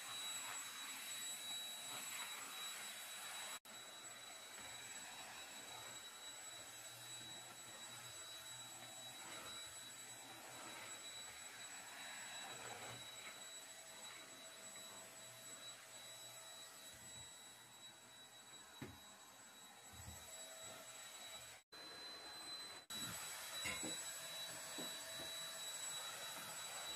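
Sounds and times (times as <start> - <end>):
vacuum cleaner whining: 0.0 - 26.9.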